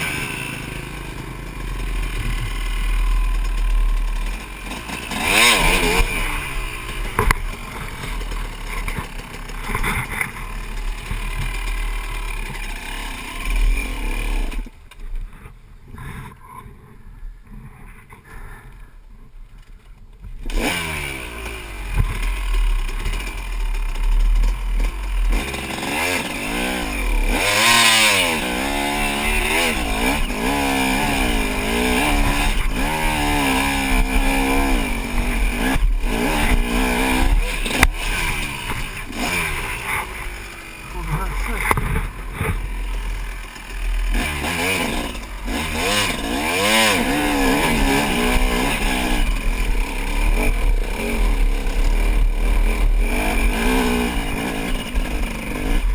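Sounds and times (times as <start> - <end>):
dirt bike engine revving: 0.0 - 14.8, 20.4 - 55.9.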